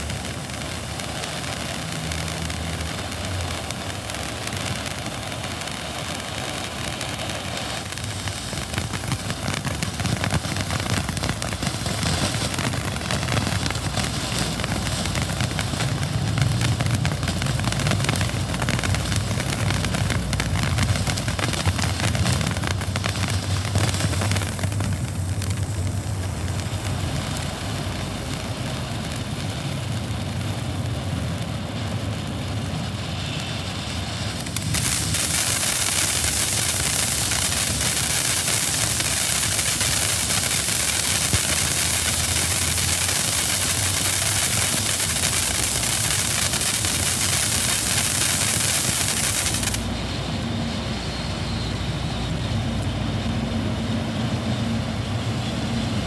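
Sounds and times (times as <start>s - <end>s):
firework fountain hissing sparks: 0.0s - 56.0s.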